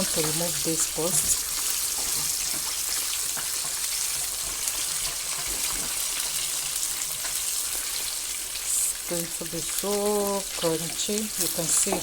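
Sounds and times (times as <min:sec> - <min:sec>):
chicken wings sizzling in oil: 0:00.0 - 0:12.0.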